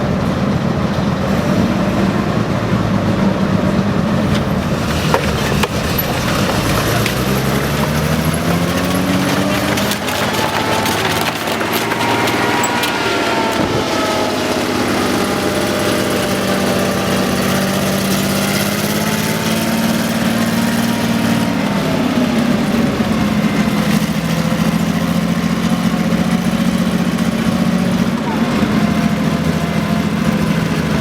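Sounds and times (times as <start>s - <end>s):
tank engine running: 0.0s - 31.0s.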